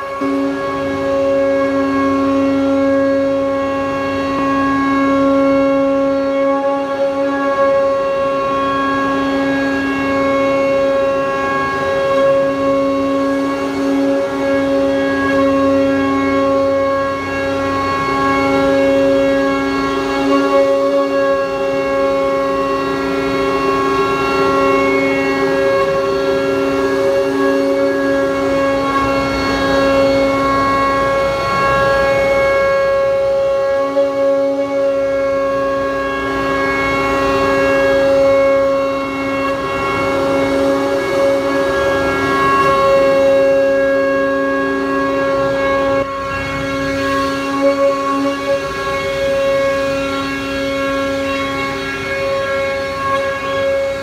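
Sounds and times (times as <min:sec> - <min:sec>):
router cutting noise: 0:00.0 - 0:54.0
router machine whine: 0:00.0 - 0:54.0.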